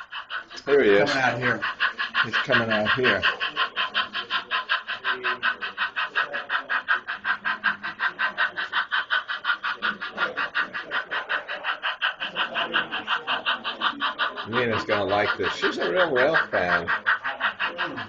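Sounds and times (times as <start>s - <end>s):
model train running: 0.0s - 18.0s.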